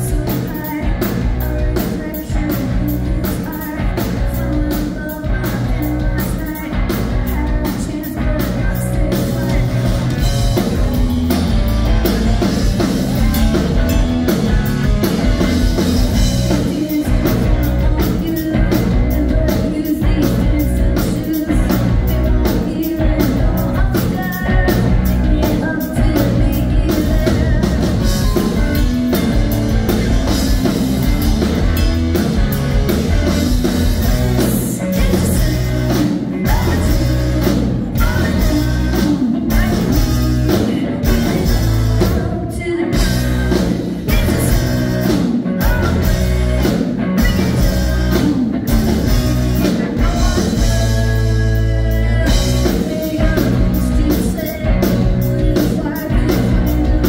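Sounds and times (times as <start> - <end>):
woman singing: 0.0 - 31.9, 33.2 - 57.0
distorted electric guitar: 0.0 - 57.0
drum kit beat: 0.0 - 57.0.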